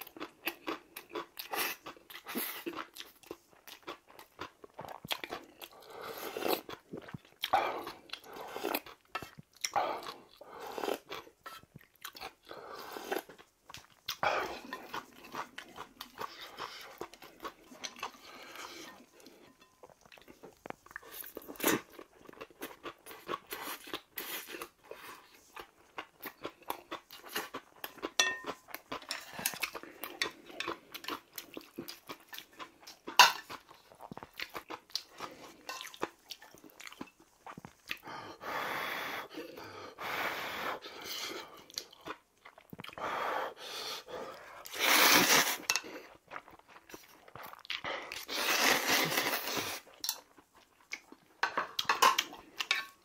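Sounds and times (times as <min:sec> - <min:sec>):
chewing and crunching: 0:00.0 - 0:38.1, 0:40.9 - 0:43.0, 0:44.1 - 0:53.0.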